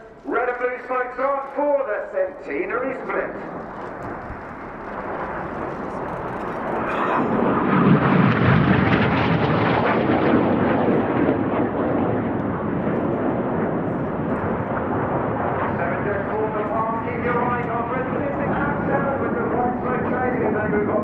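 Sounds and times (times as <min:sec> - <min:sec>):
jets passing overhead: 0:01.8 - 0:21.0.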